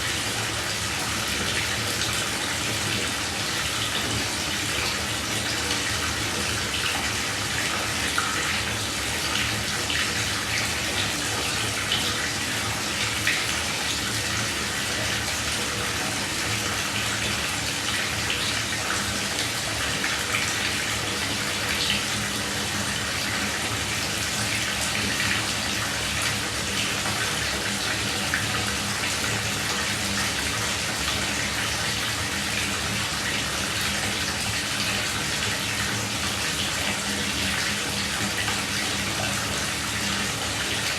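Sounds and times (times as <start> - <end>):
shower water running: 0.0 - 40.9.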